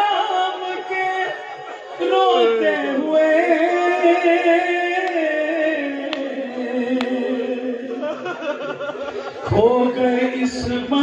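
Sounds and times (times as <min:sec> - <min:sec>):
man singing unaccompanied lament: 0:00.0 - 0:11.0.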